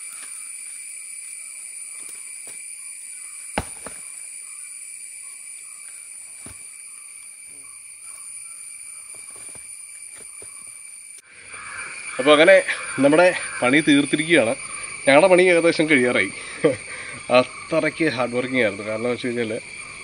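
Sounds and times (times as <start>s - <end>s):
insects droning high whine: 0.0s - 20.0s.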